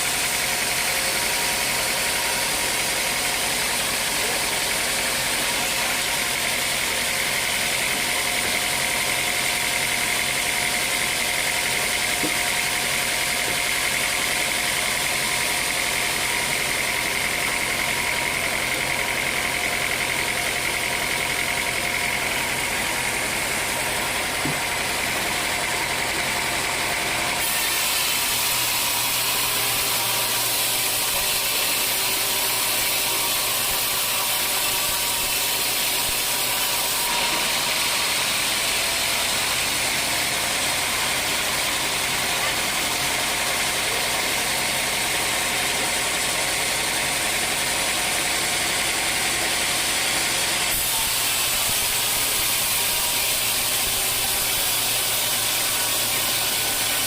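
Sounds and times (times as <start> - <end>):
sawmill machinery sawing wood: 0.0 - 57.0.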